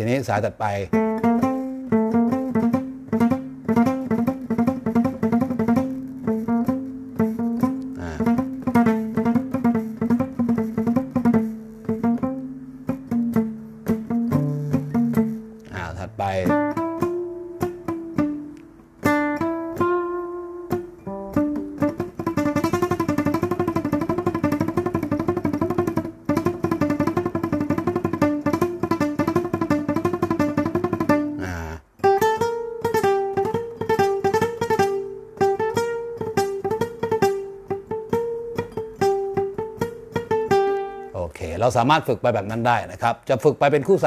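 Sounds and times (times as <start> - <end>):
classical guitar picked notes: 0.0 - 43.0.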